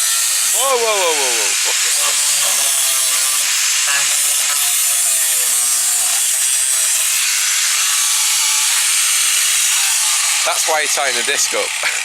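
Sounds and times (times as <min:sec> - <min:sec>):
angle grinder grinding steel: 0:00.0 - 0:12.0.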